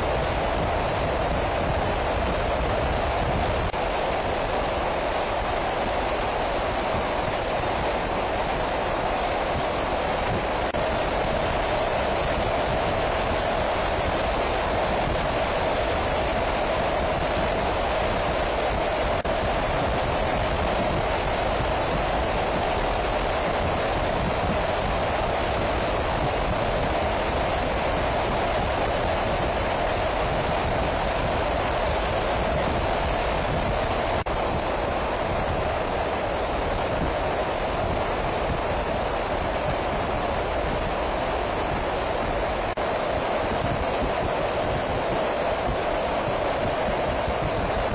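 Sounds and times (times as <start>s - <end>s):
wind and engine noise in flight: 0.0s - 47.9s.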